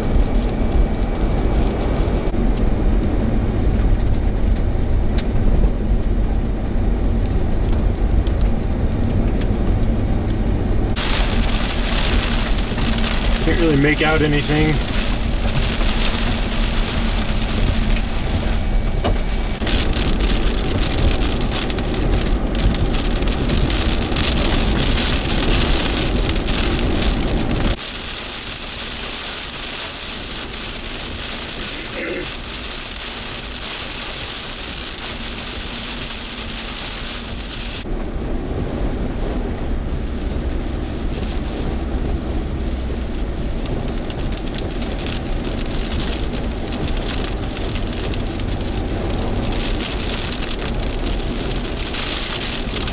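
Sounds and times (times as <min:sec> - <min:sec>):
heavy rain on vehicle roof: 0:00.0 - 0:52.9
low rumble: 0:00.0 - 0:52.9.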